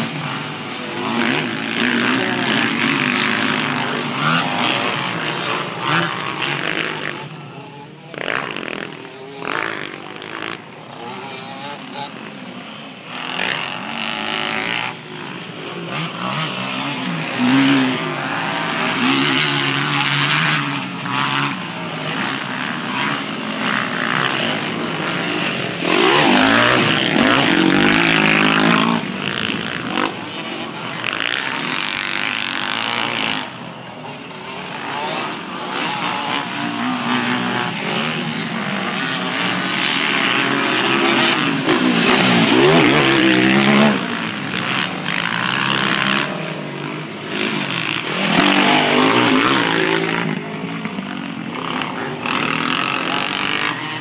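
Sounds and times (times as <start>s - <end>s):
dirt bike engines revving: 0.0s - 54.0s
dirt bike passing close: 0.0s - 54.0s.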